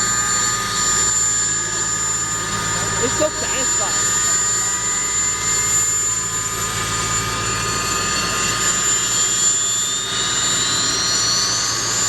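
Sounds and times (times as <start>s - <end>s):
helicopter engines whining: 0.0s - 12.0s
helicopter rotor throb: 0.0s - 12.0s.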